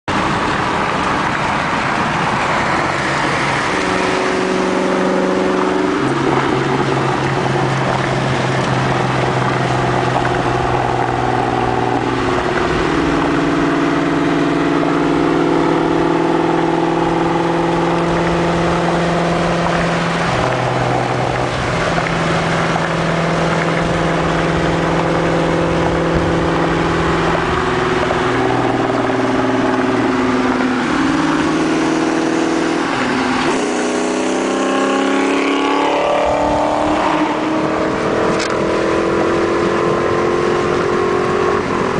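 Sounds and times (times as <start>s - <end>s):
road and wind noise: 0.0s - 41.9s
car exhaust at highway speed: 0.1s - 41.9s.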